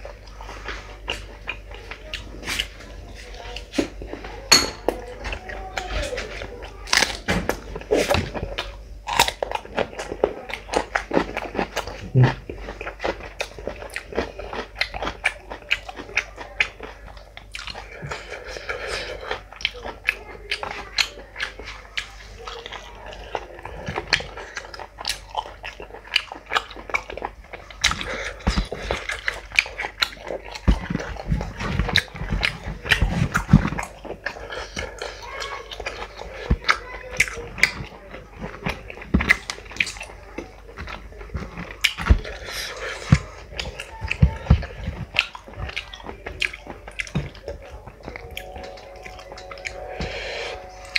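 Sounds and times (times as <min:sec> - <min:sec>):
person chewing and smacking: 0:00.0 - 0:50.9.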